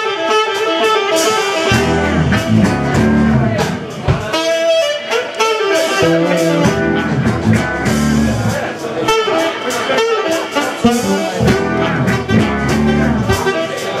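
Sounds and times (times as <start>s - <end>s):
alto saxophone melody: 0.0s - 14.0s
live band playing blues-jazz: 0.0s - 14.0s.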